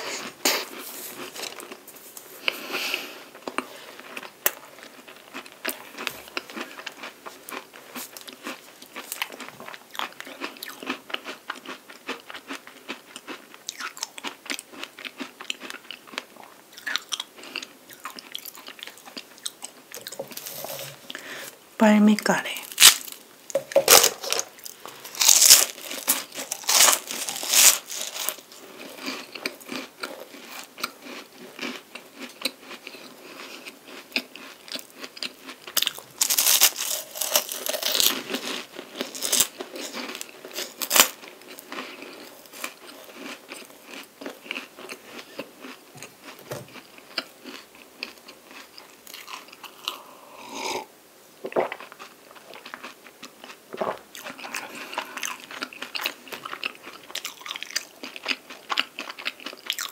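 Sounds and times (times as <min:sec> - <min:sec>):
crunching and chewing pastry: 0:00.0 - 0:21.4, 0:22.7 - 0:50.8, 0:51.5 - 0:59.9.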